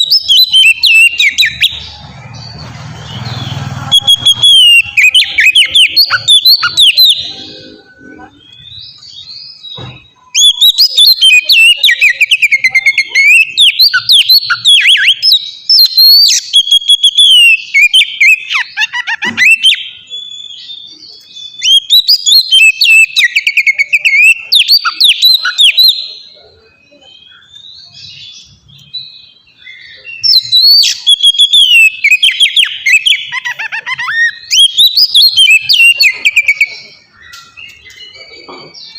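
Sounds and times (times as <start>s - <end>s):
songbird singing varied phrases: 0.0s - 38.9s.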